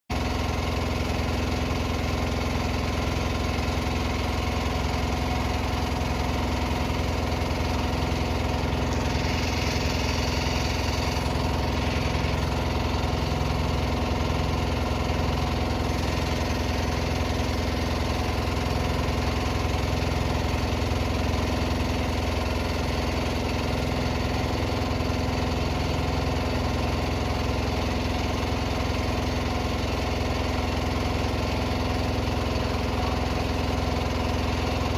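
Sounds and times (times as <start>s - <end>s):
small boat engine running: 0.1s - 34.9s.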